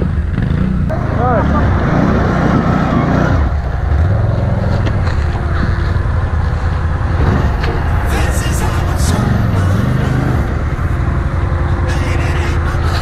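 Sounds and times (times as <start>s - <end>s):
atv engine revving: 0.0s - 13.0s
engine crackles: 0.0s - 13.0s.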